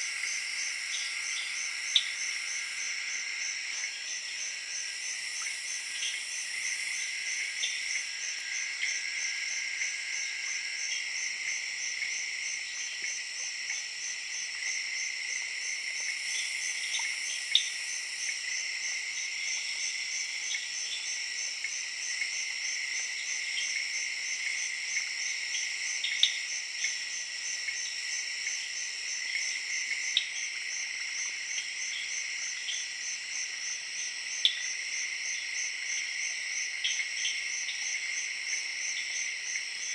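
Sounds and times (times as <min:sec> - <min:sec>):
tree frogs and crickets trilling: 0:00.0 - 0:39.9.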